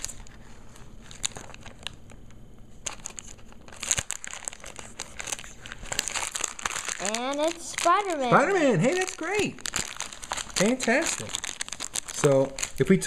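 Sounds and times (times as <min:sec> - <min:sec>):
foil packet crinkling: 0:00.0 - 0:13.0.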